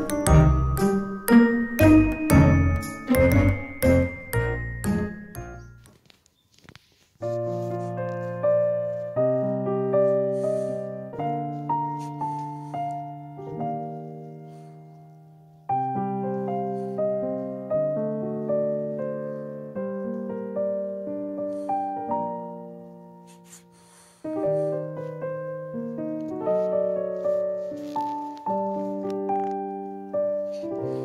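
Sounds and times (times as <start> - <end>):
slow gentle piano music: 0.0 - 6.2, 7.1 - 31.0.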